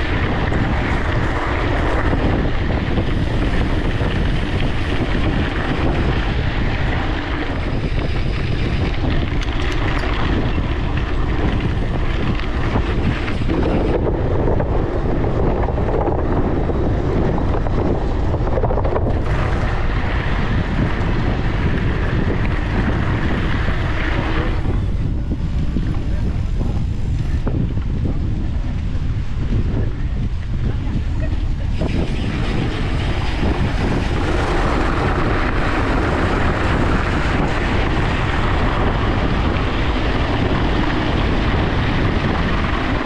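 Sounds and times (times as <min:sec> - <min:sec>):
bicycle tyre road rumble: 0:00.0 - 0:43.0
wind buffeting microphone: 0:00.0 - 0:43.0.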